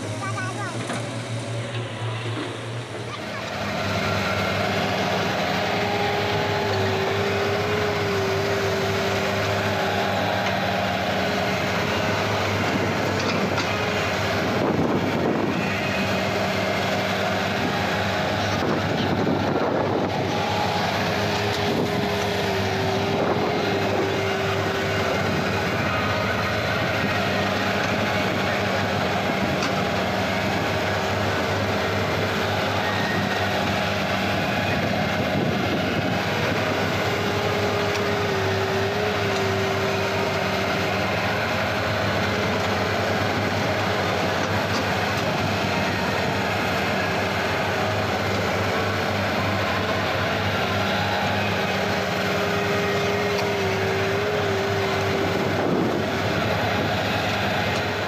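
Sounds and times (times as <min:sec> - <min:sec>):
excavator diesel engines running: 0:00.0 - 0:58.0
high wavering whine: 0:00.0 - 0:58.0.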